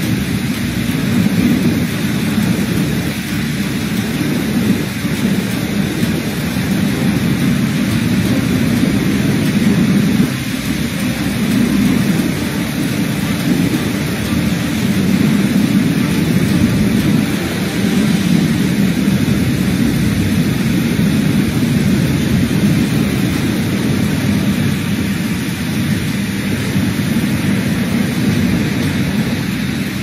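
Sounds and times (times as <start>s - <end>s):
floodwater surging: 0.0s - 30.0s
heavy rain: 0.0s - 30.0s.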